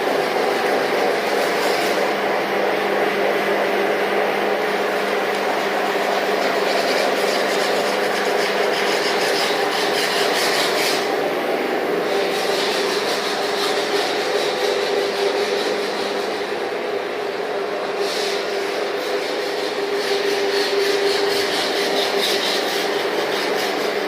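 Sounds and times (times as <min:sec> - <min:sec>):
floor scrubbing rasp: 0:00.0 - 0:24.0.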